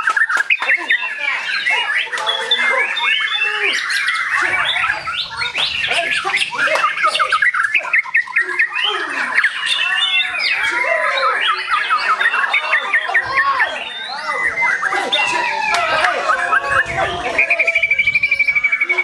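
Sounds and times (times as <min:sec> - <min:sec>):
bird singing whistles and chatter: 0:00.0 - 0:19.0.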